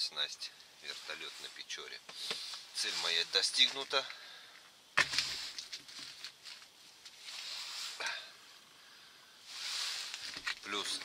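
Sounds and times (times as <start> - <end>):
rustling handling noise: 0.7 - 8.0, 9.4 - 11.0.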